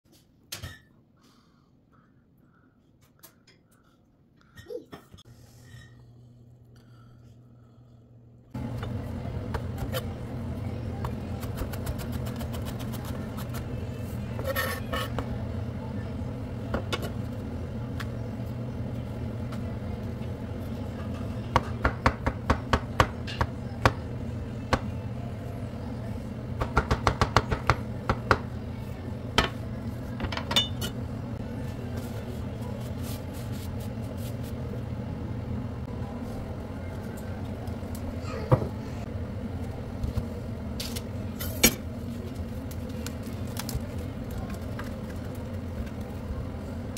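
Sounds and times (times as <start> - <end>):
steady low hum: 1.2 - 46.9.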